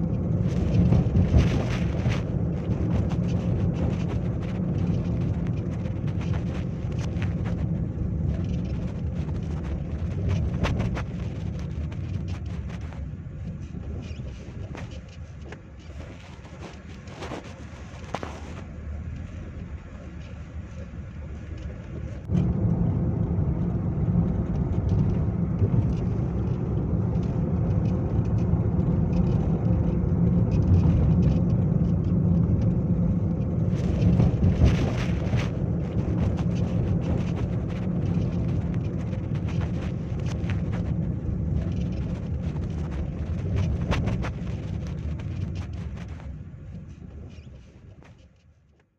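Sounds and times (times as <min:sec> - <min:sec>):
storm wind buffeting microphone: 0:00.0 - 0:48.1
crackles: 0:00.0 - 0:48.9.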